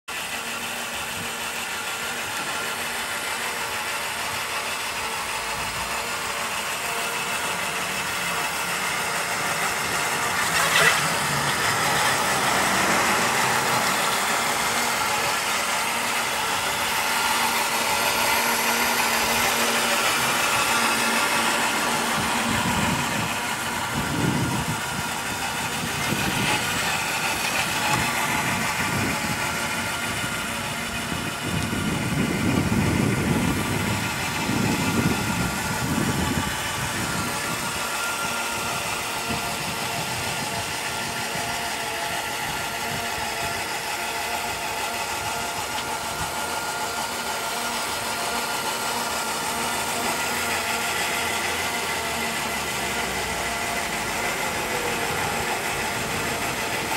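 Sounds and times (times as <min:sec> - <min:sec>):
model tractor running: 0:00.0 - 0:56.9.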